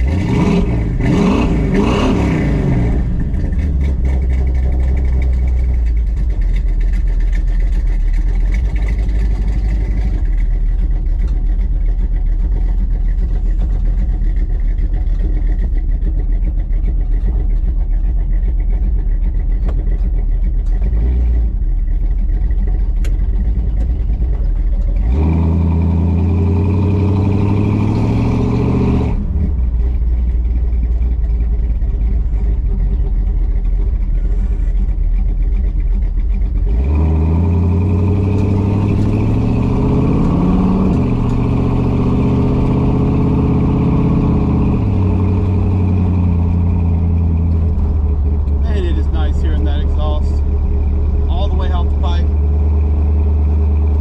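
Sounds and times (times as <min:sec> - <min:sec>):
car engine and exhaust revving: 0:00.0 - 0:54.0.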